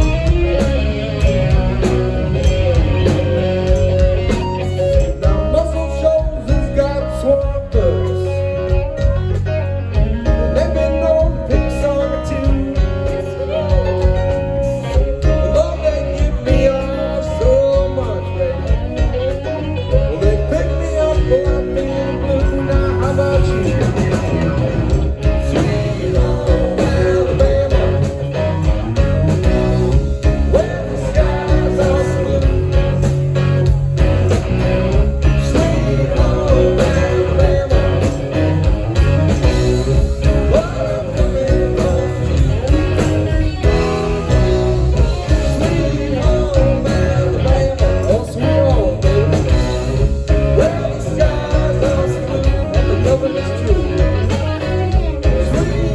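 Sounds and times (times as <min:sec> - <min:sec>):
electric guitar: 0:00.0 - 0:55.9
live blues-rock band: 0:00.0 - 0:55.9.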